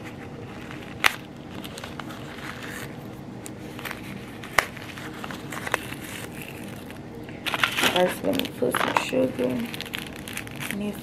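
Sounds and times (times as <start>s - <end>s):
plastic packaging crackling: 0.0s - 11.0s.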